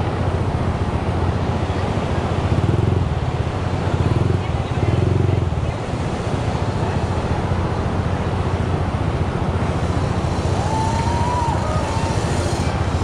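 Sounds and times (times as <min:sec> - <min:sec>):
dirt bike engine buzzing: 0:00.0 - 0:13.0.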